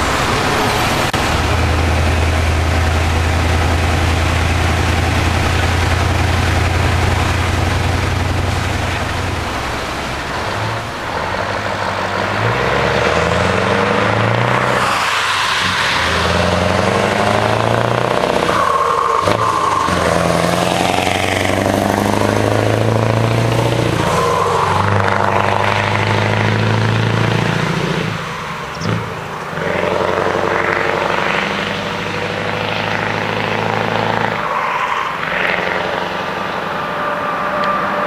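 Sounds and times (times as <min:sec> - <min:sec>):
truck diesel engine passing: 0:00.0 - 0:38.0.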